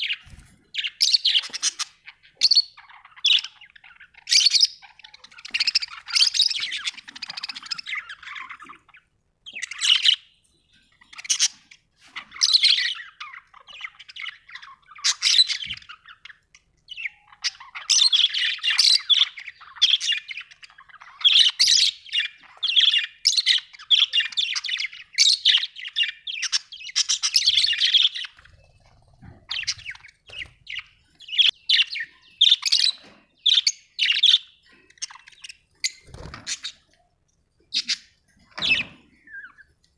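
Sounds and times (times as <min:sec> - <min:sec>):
budgerigar chirping: 0:00.8 - 0:10.4, 0:12.4 - 0:36.9, 0:37.7 - 0:39.7.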